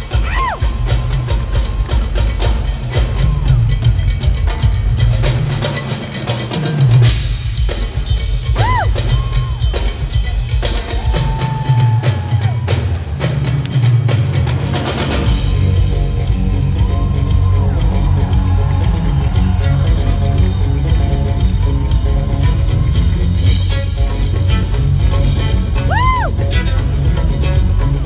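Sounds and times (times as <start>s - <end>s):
drum kit groove: 0.0s - 28.0s
percussion drums: 0.0s - 28.0s.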